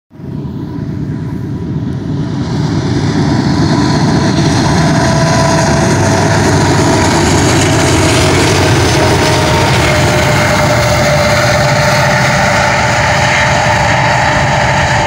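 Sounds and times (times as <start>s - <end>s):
diesel locomotive engine rumble: 0.1s - 15.0s
locomotive whine: 0.2s - 15.0s.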